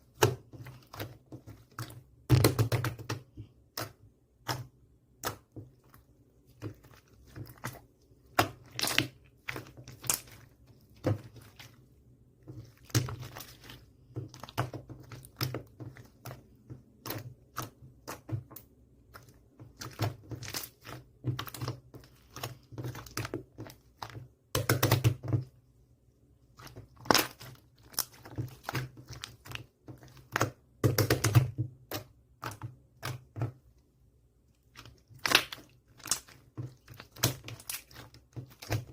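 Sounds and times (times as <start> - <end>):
slime squishing by hand: 0.0 - 38.9.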